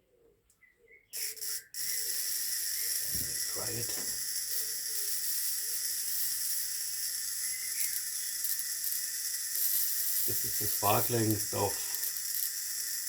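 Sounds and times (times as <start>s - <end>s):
spark discharge hiss with tone: 1.2s - 13.0s.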